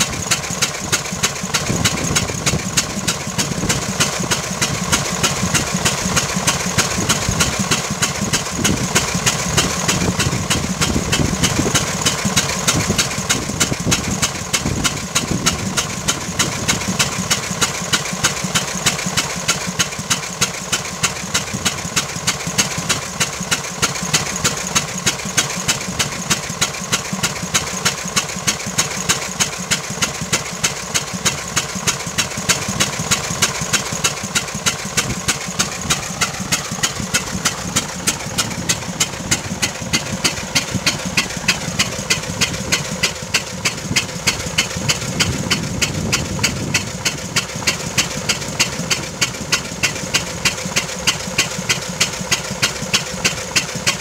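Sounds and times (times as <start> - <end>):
engine popping steadily: 0.0 - 54.0.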